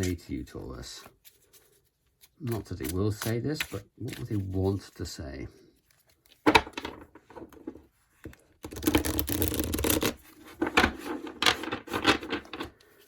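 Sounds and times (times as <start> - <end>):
cards rustling: 0.0 - 13.0.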